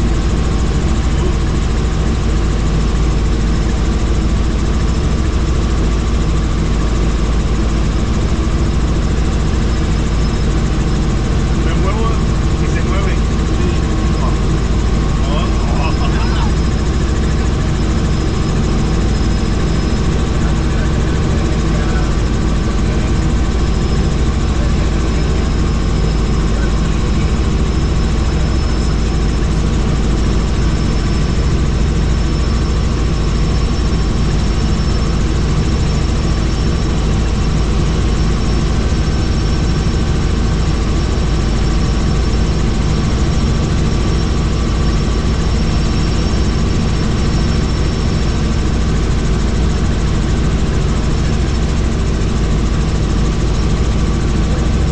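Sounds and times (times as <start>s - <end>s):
helicopter rotor and engine drone: 0.0s - 54.9s
high whine: 0.0s - 54.9s.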